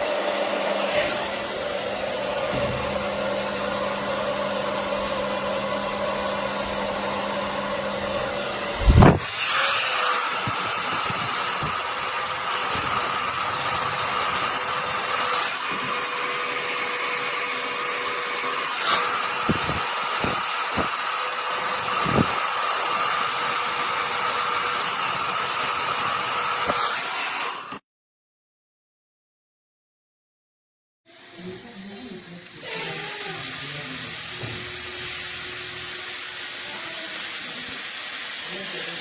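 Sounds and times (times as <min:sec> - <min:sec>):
hair dryer blowing: 0:00.0 - 0:27.8, 0:31.1 - 0:39.0.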